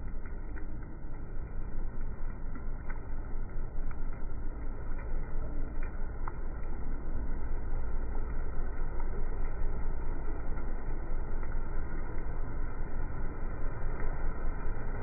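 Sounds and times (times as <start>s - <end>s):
rain falling on puddle: 0.0s - 15.0s.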